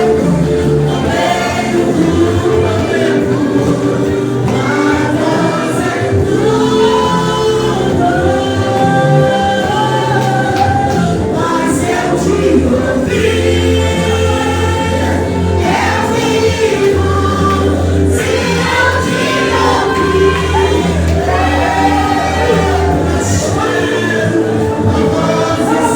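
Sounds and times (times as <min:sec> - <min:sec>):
gospel group singing: 0:00.0 - 0:25.9
instrumental backing with bass: 0:00.0 - 0:25.9.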